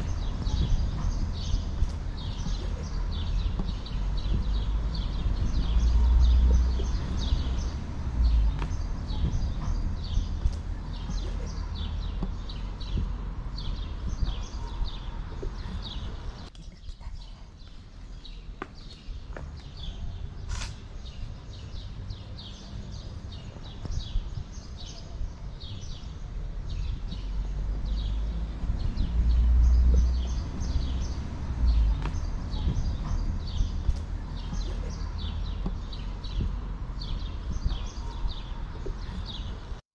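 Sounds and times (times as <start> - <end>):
low rumble: 0.0 - 17.1, 19.1 - 39.8
small birds chirping: 0.0 - 39.8.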